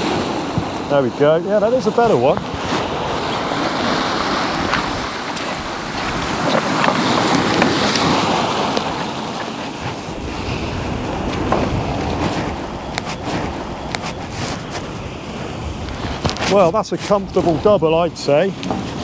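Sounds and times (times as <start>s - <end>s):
waves breaking on rocky shore: 0.0s - 19.0s
wind noise on microphone: 1.7s - 19.0s.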